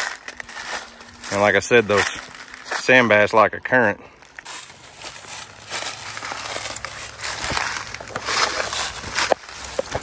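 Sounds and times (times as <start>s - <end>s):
twigs rustling and snapping: 0.0s - 2.8s, 4.2s - 10.0s
footsteps crunching through dry grass: 0.0s - 10.0s.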